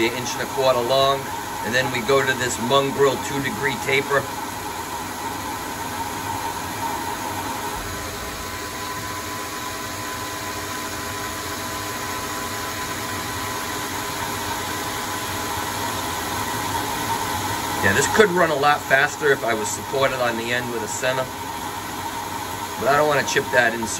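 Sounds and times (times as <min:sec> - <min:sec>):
lathe humming with constant tones: 0:00.0 - 0:23.9.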